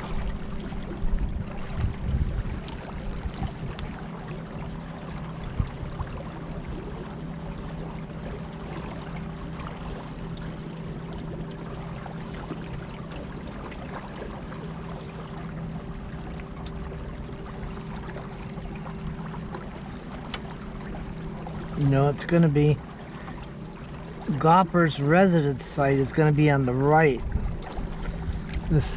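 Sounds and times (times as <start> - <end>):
boat engine running: 0.0 - 28.9
water splashing along hull: 0.0 - 28.9.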